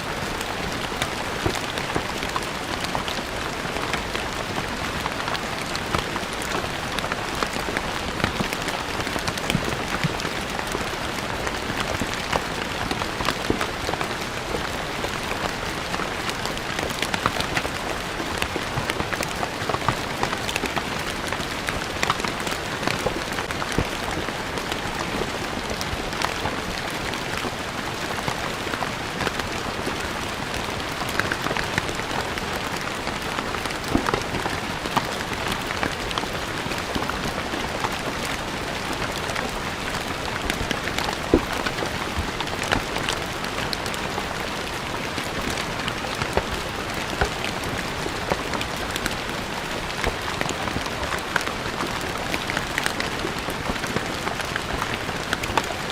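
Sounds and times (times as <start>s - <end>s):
rain on stone paving: 0.0s - 55.9s.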